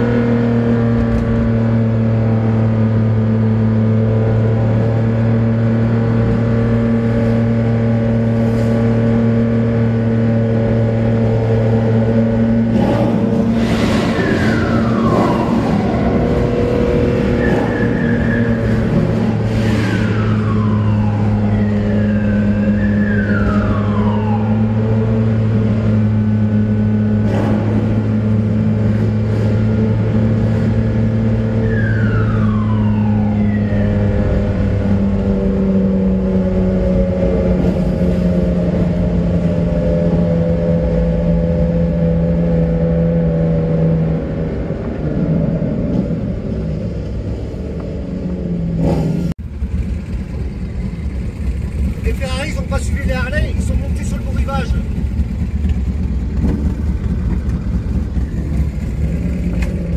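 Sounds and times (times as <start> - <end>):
car engine running at low revs: 0.0 - 59.9.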